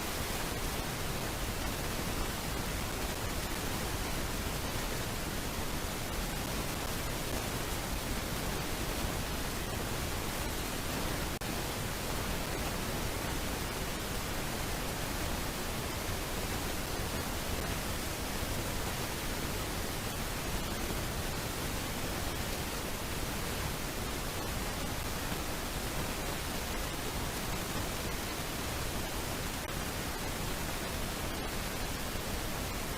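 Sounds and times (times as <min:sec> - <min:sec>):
steady hiss: 0:00.0 - 0:32.9.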